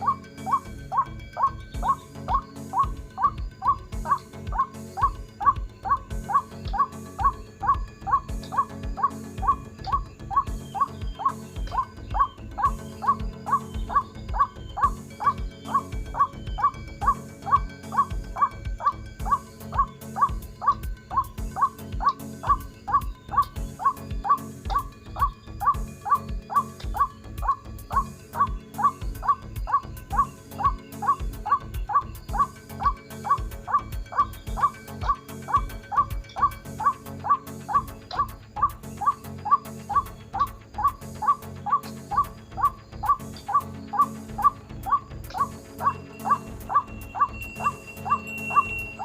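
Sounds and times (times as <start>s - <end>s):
bird croaking call: 0.0s - 49.0s
steady low hum: 0.0s - 49.0s.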